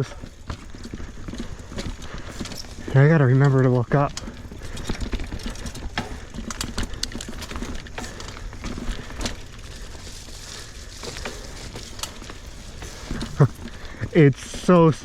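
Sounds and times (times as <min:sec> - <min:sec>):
bike rattling and clicking: 0:00.0 - 0:15.0
tyre and wind rumble: 0:00.0 - 0:15.0.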